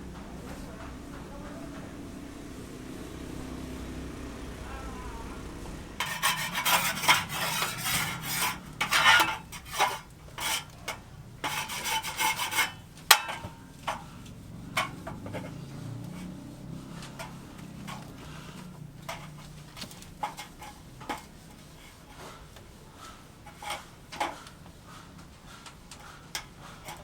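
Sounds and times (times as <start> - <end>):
rough scraping strokes: 3.0 - 27.0.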